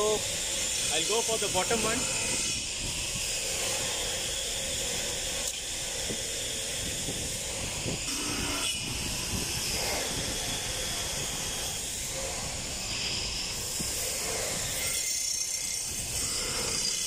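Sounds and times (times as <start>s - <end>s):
engine room machinery hiss: 0.0s - 17.0s.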